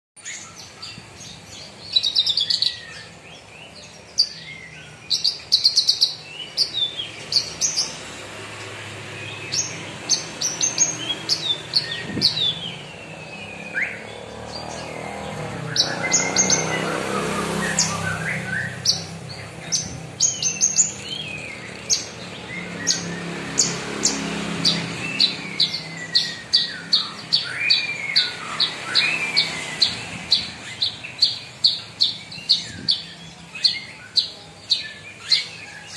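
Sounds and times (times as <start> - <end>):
lark singing: 0.2 - 8.1, 9.2 - 35.9.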